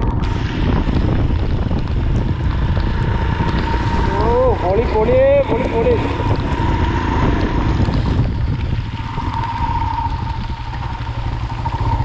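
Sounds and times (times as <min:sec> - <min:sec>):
motorcycle engine under load: 0:00.0 - 0:12.0
wind noise on microphone: 0:00.0 - 0:12.0.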